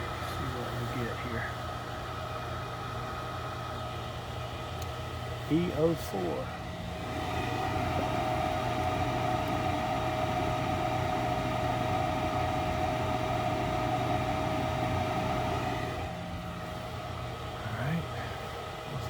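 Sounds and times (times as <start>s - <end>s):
furnace motor whirring: 0.0s - 19.0s.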